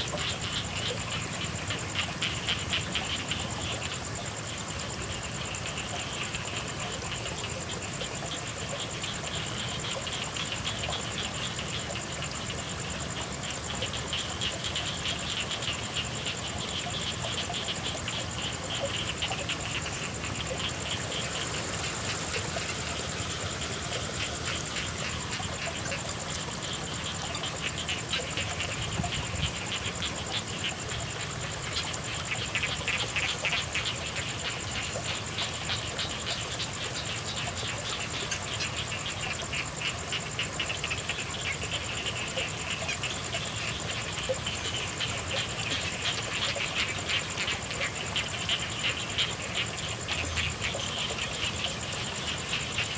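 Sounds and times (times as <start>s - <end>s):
frogs trilling: 0.0s - 52.9s
steady rain: 0.0s - 52.9s.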